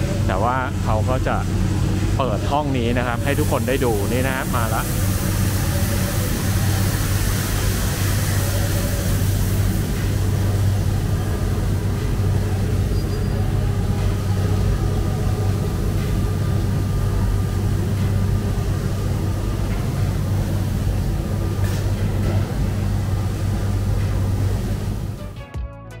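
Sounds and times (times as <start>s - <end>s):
coffee roaster humming: 0.0s - 25.3s.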